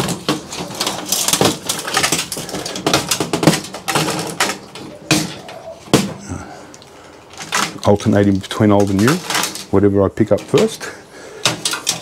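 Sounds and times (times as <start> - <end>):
hand tools clicking and clattering: 0.0 - 12.0.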